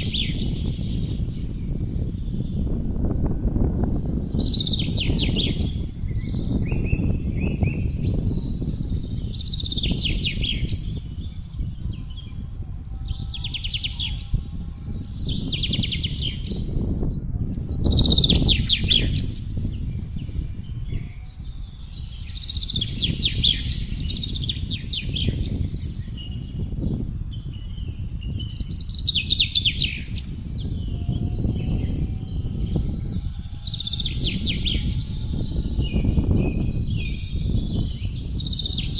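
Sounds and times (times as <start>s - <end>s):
songbirds trilling: 0.0s - 38.9s
wind blowing in gusts: 0.0s - 38.9s.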